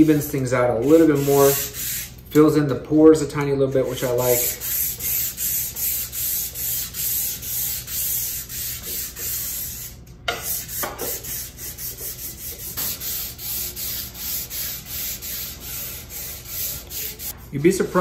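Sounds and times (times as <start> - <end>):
sandpaper rubbing on wood: 0.8 - 2.1, 4.0 - 18.0.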